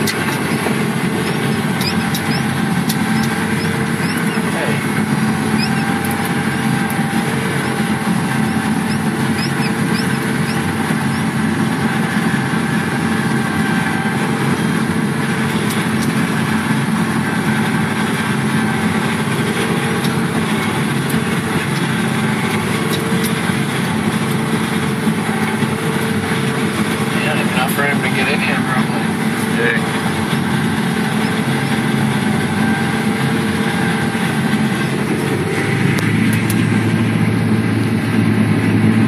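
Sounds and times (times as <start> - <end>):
harvester machine drone: 0.0 - 39.0
high-pitched machine whine: 0.0 - 39.0.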